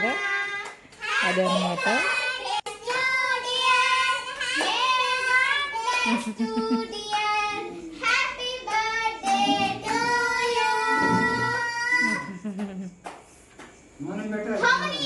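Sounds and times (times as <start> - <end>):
girl singing: 0.0 - 12.3.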